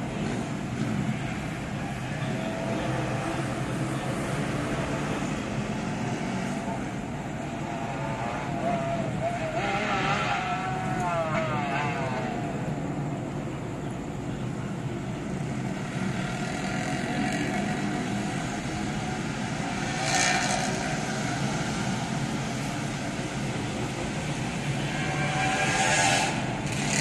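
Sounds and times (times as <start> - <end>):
motorcycles revving loudly: 0.0 - 12.5, 15.4 - 27.0
traffic hum: 0.0 - 27.0.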